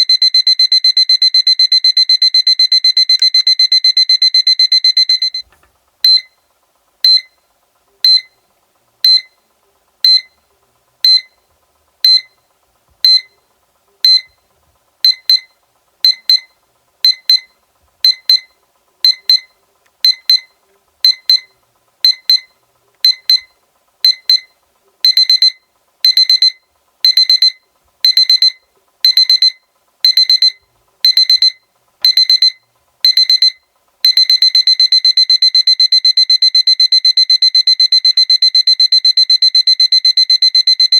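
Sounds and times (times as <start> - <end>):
electronic alarm clock beeping: 0.0 - 5.4, 6.0 - 6.4, 7.0 - 7.4, 8.0 - 8.4, 9.0 - 9.4, 10.0 - 10.4, 11.0 - 11.4, 12.0 - 12.4, 13.0 - 13.4, 14.0 - 14.3, 15.0 - 40.9.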